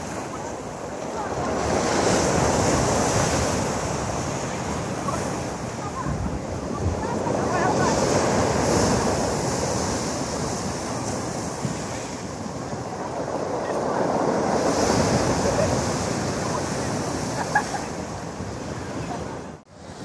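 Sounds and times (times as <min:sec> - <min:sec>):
wind buffeting microphone: 0:00.0 - 0:19.6
surf breaking on stony beach: 0:00.0 - 0:20.0.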